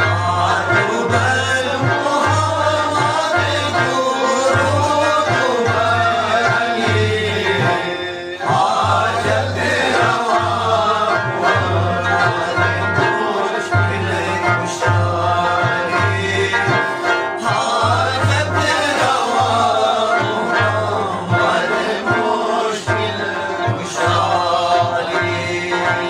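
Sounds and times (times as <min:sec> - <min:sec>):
frame drum beats: 0:00.0 - 0:26.0
man singing: 0:00.0 - 0:26.0
plucked lute: 0:00.0 - 0:26.0.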